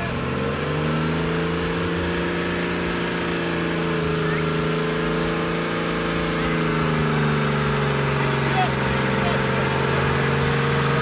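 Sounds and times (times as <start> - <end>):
truck engine at high revs: 0.0 - 11.0.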